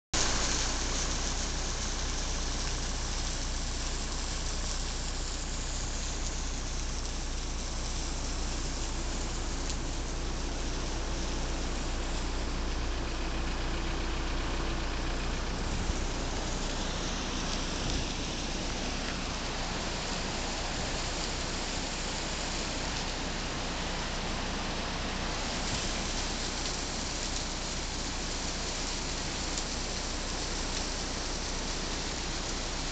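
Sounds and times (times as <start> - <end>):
waterfall rushing and splashing: 0.2 - 32.9.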